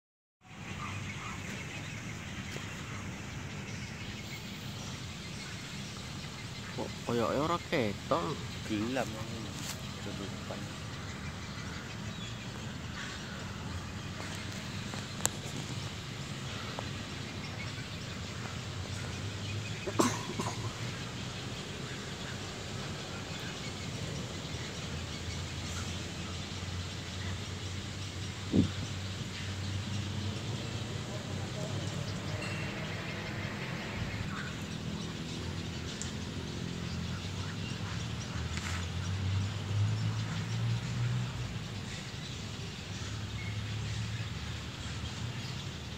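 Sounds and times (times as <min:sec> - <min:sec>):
faint bird calls: 0:00.4 - 0:39.2.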